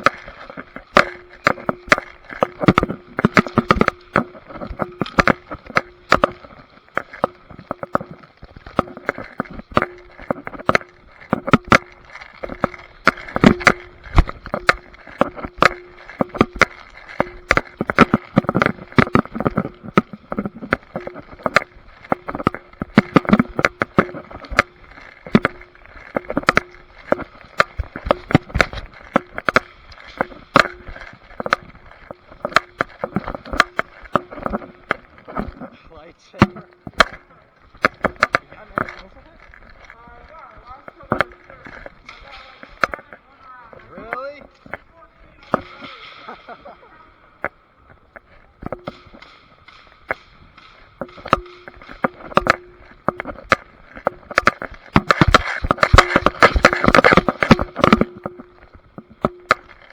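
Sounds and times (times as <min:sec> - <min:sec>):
knocking and rubbing on microphone: 0:00.0 - 0:46.6, 0:47.4 - 0:59.9.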